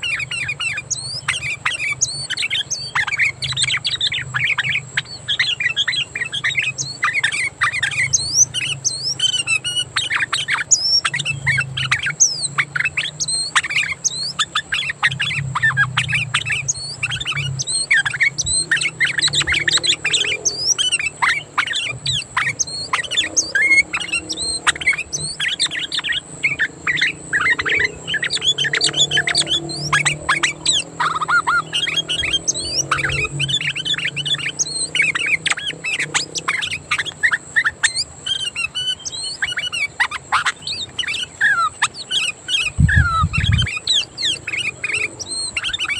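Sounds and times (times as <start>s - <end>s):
bird chirping loudly: 0.0s - 45.9s.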